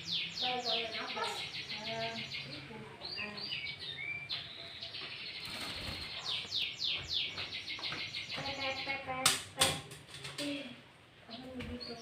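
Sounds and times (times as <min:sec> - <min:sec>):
bird singing: 0:00.0 - 0:09.2, 0:11.2 - 0:12.0.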